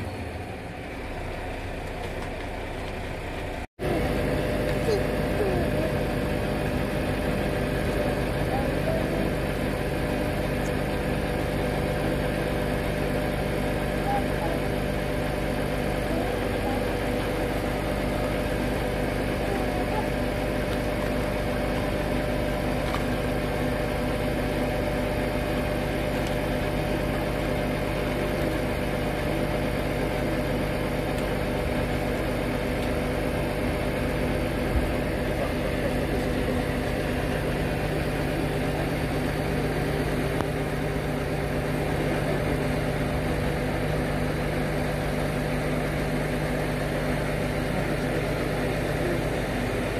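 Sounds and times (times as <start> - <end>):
large vehicle engine idling: 0.0 - 49.9.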